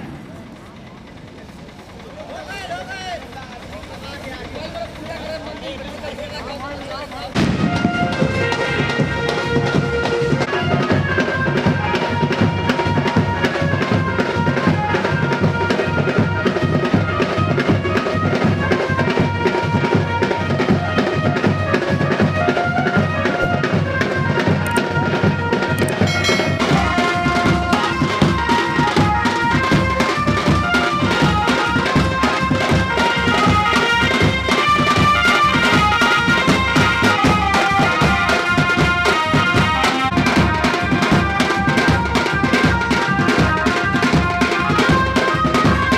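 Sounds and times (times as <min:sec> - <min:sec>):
loud music with dense drumming: 0:02.1 - 0:45.9.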